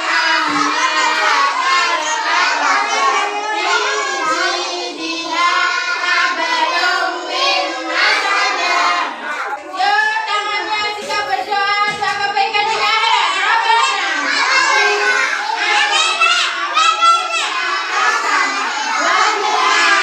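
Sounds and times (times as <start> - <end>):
young children singing: 0.0 - 20.0.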